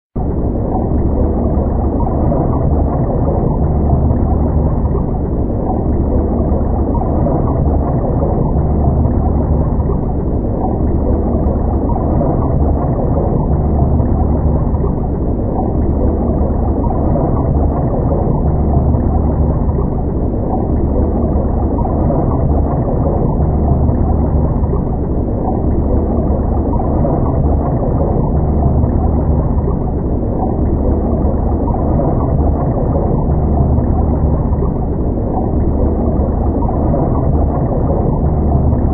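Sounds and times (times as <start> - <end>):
underwater rumble and gurgle: 0.2 - 38.9.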